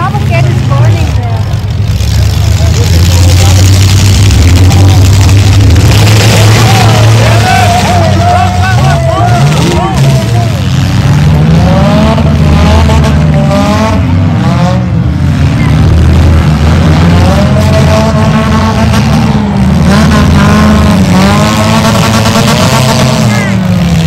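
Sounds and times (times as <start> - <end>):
car engines rumbling and revving: 0.0 - 24.0.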